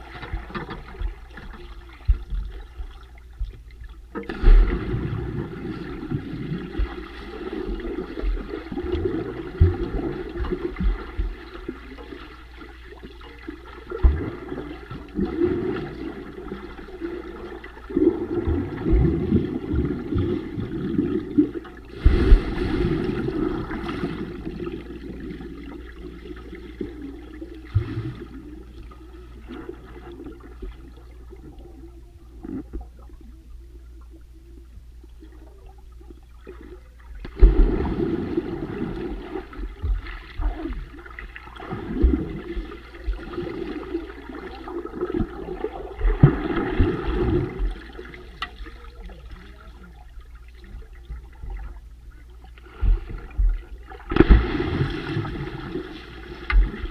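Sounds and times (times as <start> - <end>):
underwater bubbling: 0.0 - 56.9.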